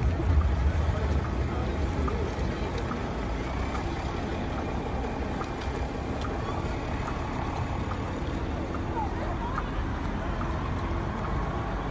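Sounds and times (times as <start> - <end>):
faint sounds from passers-by: 0.0 - 11.9
low traffic rumble: 0.0 - 11.9.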